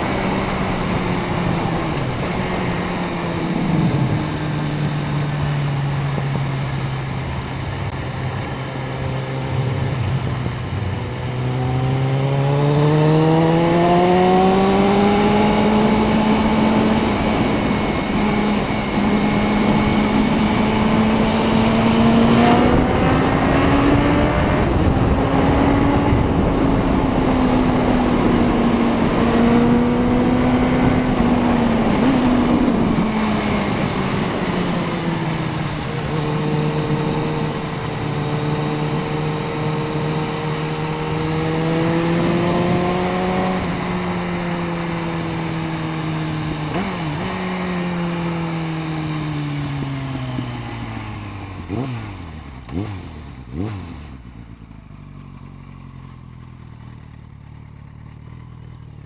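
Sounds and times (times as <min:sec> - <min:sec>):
wind noise: 0:00.0 - 0:52.0
motorcycle engine revving: 0:00.0 - 0:59.0.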